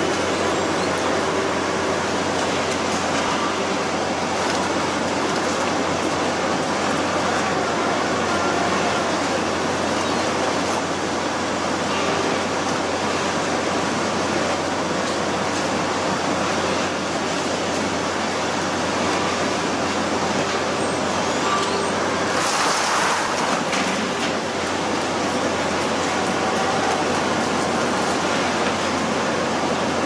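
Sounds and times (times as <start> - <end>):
boat engine drone: 0.0 - 30.0
rushing water-like noise: 0.0 - 30.0.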